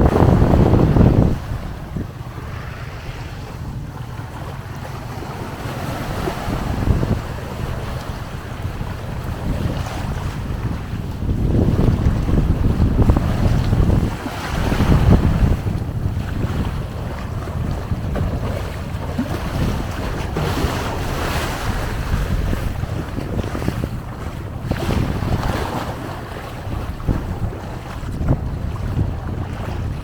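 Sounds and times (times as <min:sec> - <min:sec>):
waves washing onto shore: 0:00.0 - 0:30.0
wind buffeting microphone: 0:00.0 - 0:30.0.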